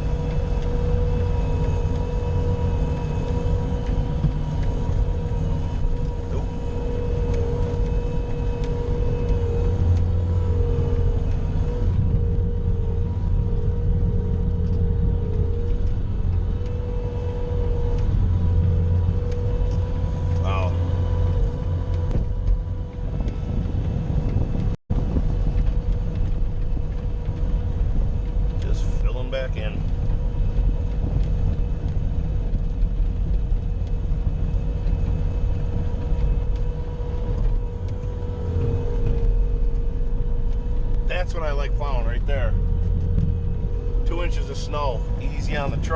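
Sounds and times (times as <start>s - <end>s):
loader engine rumbling: 0.0s - 45.9s
steady whine: 0.0s - 45.9s.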